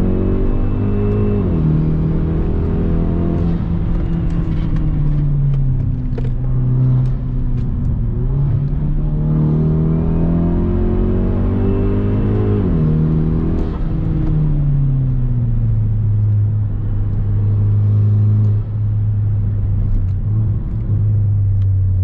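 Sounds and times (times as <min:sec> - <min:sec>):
car engine accelerating hard: 0:00.0 - 0:21.6.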